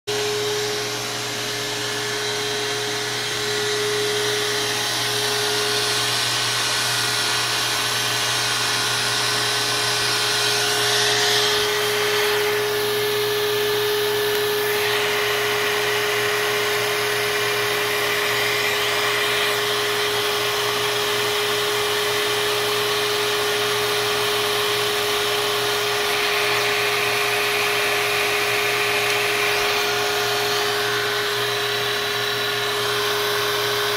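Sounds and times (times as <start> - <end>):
milling machine whining: 0.1 - 33.9.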